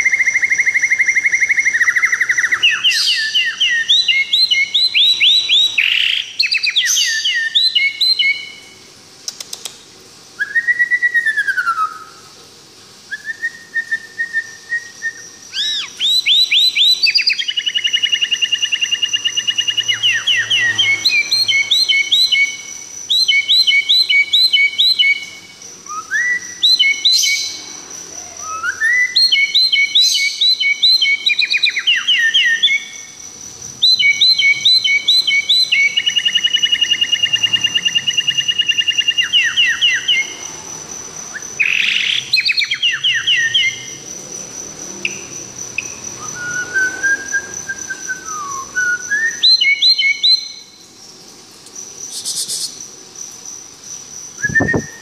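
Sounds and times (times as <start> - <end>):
songbird chirping and whistling: 0.0 - 9.6, 10.4 - 12.2, 13.1 - 27.6, 28.3 - 33.1, 33.8 - 40.4, 41.3 - 44.0, 45.0 - 50.8, 54.4 - 55.0.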